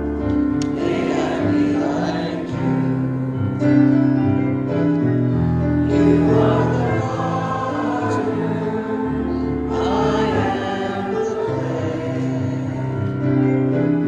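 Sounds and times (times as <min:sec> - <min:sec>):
held accompanying chords: 0:00.0 - 0:14.0
choir singing: 0:00.6 - 0:03.9, 0:05.8 - 0:14.0.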